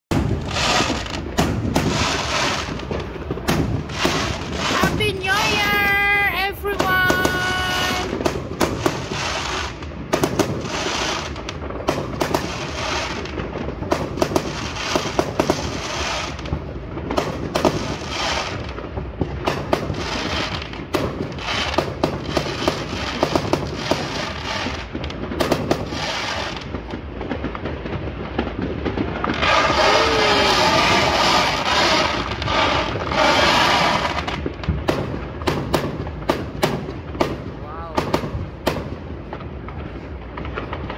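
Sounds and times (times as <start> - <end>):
fireworks bangs and crackling: 0.1 - 40.9
fireworks booms: 0.1 - 40.9.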